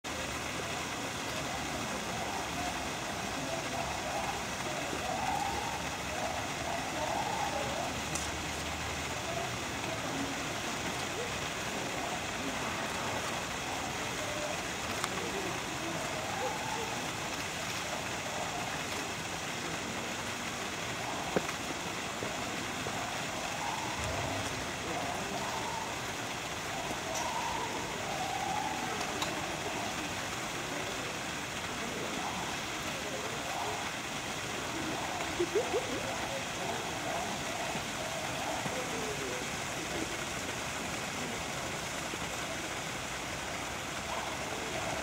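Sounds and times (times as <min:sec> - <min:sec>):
faint distant voices: 0:00.0 - 0:45.0.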